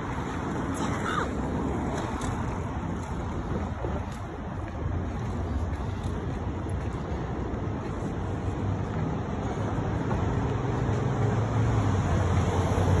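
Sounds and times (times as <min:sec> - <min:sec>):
engine hum: 0:00.0 - 0:13.0
traffic rumble: 0:00.0 - 0:13.0.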